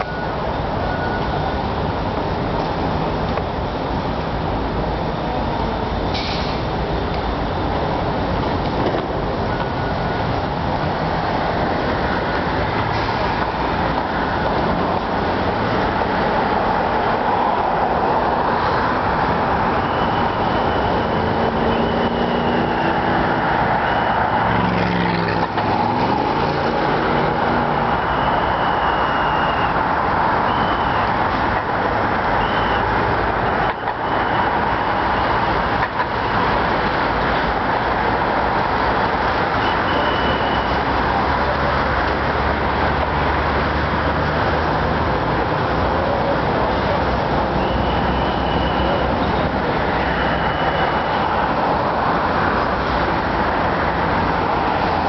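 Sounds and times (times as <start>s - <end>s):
construction machinery: 0.0s - 55.0s
heavy engine: 0.0s - 55.0s
road traffic: 0.0s - 55.0s.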